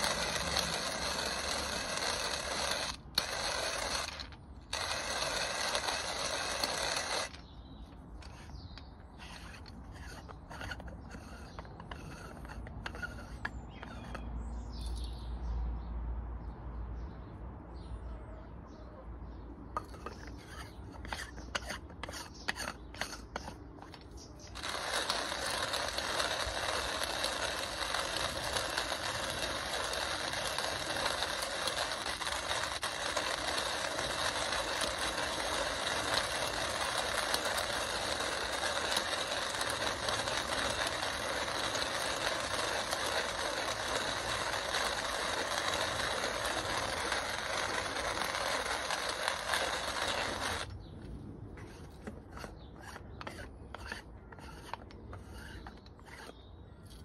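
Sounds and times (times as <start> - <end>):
hand coffee grinder grinding: 0.0 - 14.3, 19.8 - 50.7, 51.6 - 57.0.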